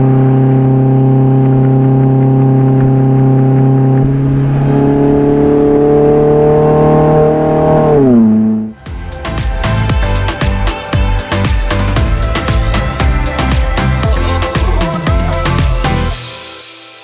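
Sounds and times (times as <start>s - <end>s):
car engine cruising: 0.0s - 16.5s.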